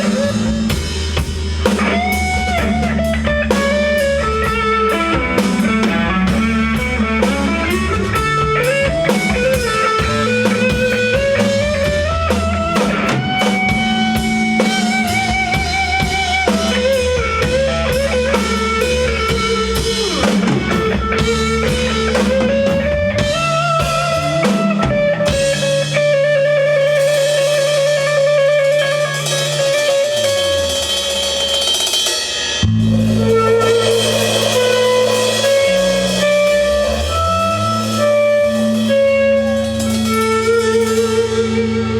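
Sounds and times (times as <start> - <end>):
lead guitar melody with vibrato: 0.0 - 31.9, 32.6 - 41.9
cymbals: 0.0 - 41.9
rock band playing live: 0.0 - 41.9.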